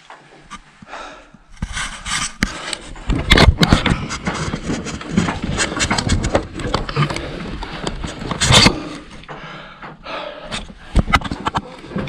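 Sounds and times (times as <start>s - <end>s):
person climbing wooden ladder: 0.0s - 12.0s.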